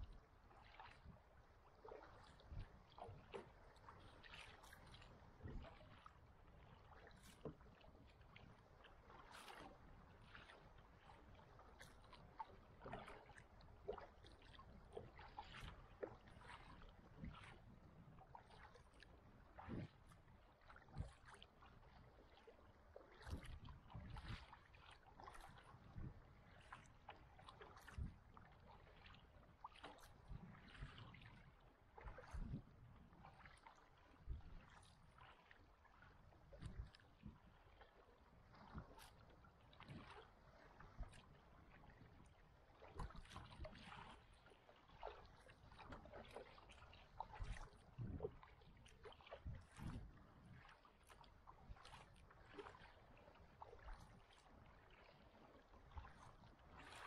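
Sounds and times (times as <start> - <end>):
kayak paddle splashing: 0.0 - 57.0
low wash of water: 0.0 - 57.0.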